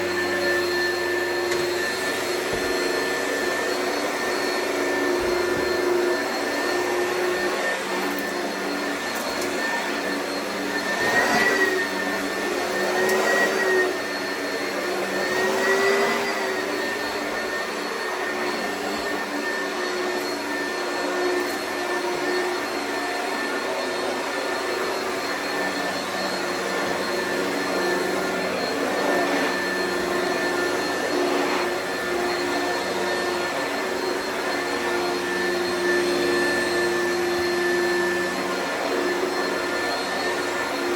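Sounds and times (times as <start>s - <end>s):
vacuum cleaner whining hum: 0.0s - 40.9s.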